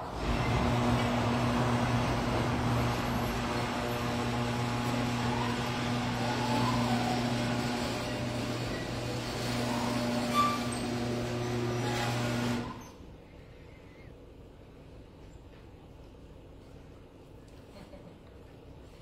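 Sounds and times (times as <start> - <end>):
mechanical hum with low drone: 0.0 - 19.0.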